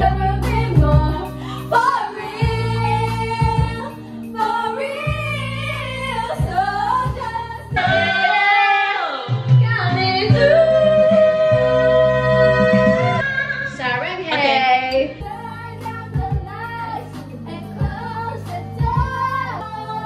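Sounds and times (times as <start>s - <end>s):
pop backing track: 0.0s - 20.0s
women singing karaoke: 0.0s - 20.0s.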